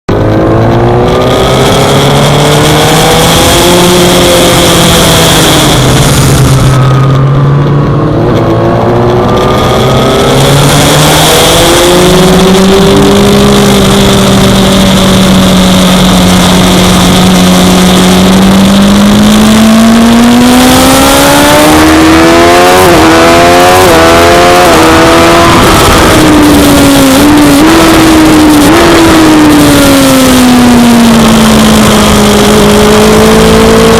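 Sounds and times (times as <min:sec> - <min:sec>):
racing motorcycle engine: 0:00.1 - 0:33.9.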